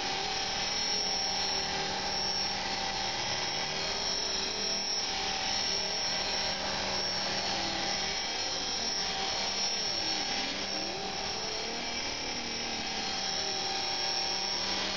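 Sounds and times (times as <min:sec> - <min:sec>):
rc helicopter motor whine: 0:00.0 - 0:14.9.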